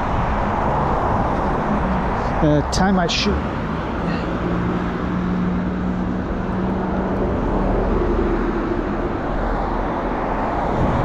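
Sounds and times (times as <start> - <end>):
cars passing: 0.0 - 11.0.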